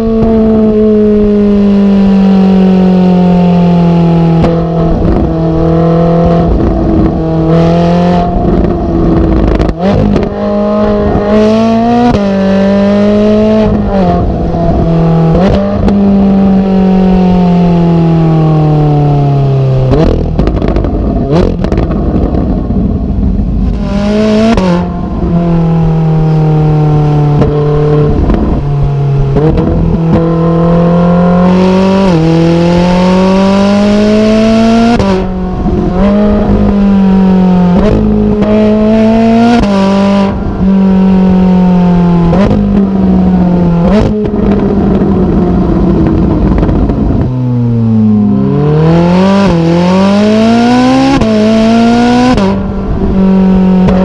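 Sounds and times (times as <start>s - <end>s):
sports car engine revving: 0.0s - 54.0s.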